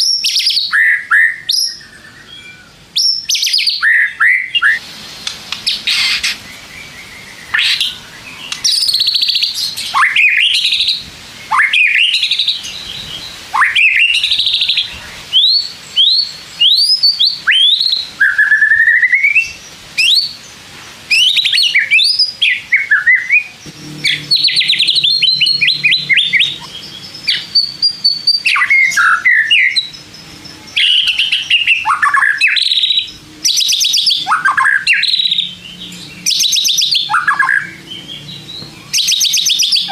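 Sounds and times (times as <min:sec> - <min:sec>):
songbird whistling and trilling: 0:00.0 - 0:04.8, 0:05.5 - 0:20.4, 0:21.1 - 0:39.9.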